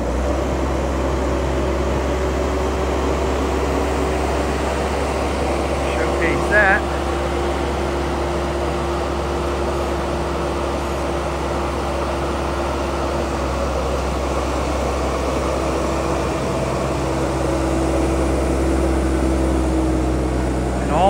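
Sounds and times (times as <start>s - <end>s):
diesel engine running: 0.0s - 21.0s
hydraulic whine: 0.0s - 21.0s.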